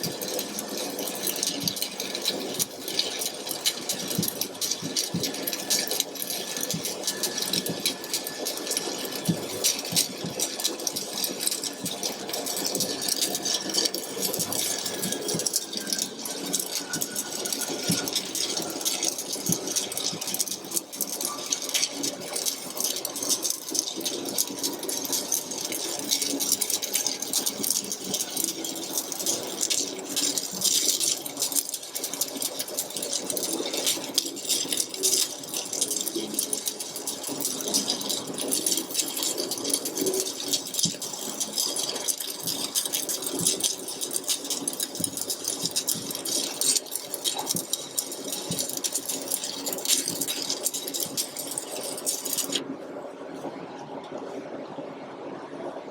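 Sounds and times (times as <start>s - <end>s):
welding arc crackling: 0.0s - 52.7s.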